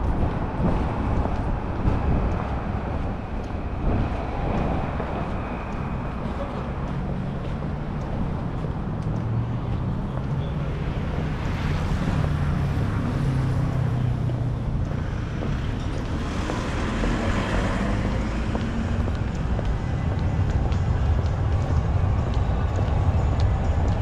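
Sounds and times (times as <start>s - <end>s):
vehicle engines humming: 0.0s - 24.0s.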